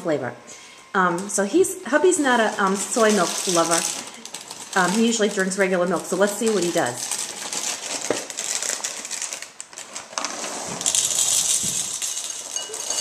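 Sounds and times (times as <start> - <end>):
cereal pattering into bowl: 2.3 - 13.0
box clicks and rustles: 2.4 - 13.0.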